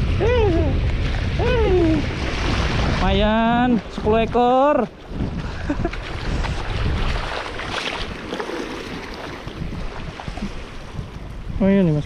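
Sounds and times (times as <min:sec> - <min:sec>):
waves washing against concrete: 0:00.0 - 0:12.0
wind buffeting microphone: 0:00.0 - 0:12.0.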